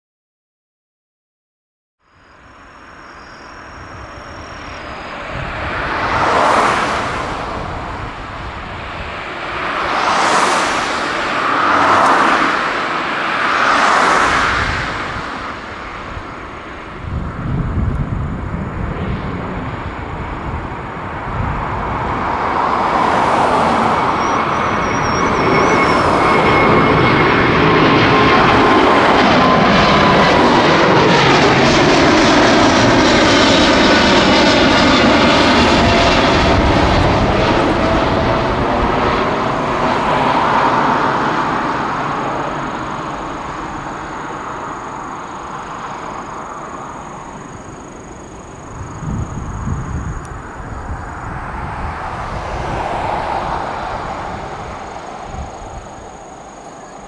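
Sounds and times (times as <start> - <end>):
jet engines rumbling at takeoff: 2.1 - 57.0
jet engine whine sliding down: 2.2 - 57.0.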